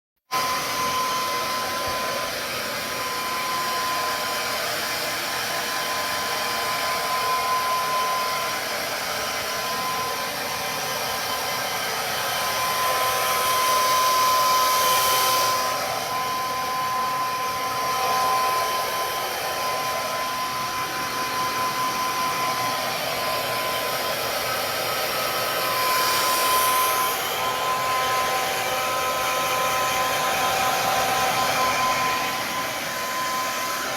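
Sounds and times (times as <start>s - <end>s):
hair dryer blowing: 0.3s - 33.9s.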